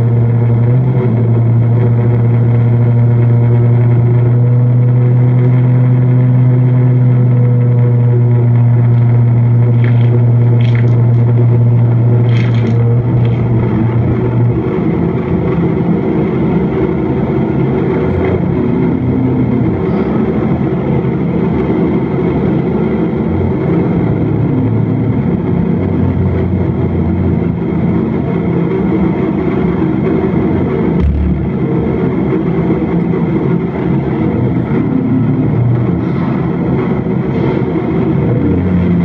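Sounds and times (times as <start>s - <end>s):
dense rumbling noise: 0.0s - 39.0s
low electronic drone: 0.0s - 39.0s.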